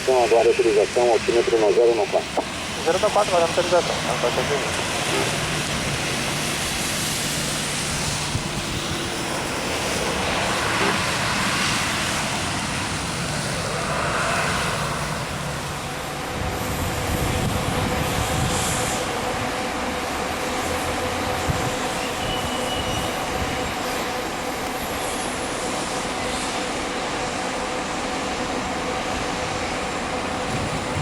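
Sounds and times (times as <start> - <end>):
faint engine whine: 0.0 - 31.0
jet engines rushing: 0.0 - 31.0.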